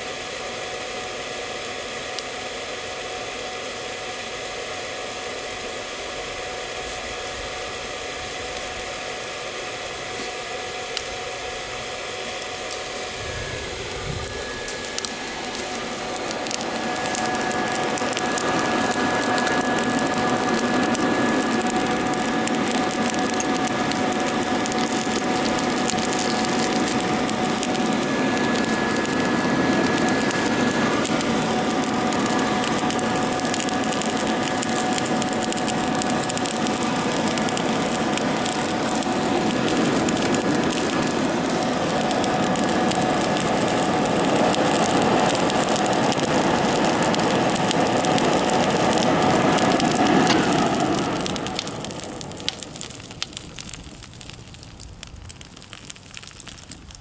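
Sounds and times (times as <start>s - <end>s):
electric blower motor whine: 0.0s - 53.8s
forge fire crackling: 0.0s - 57.0s.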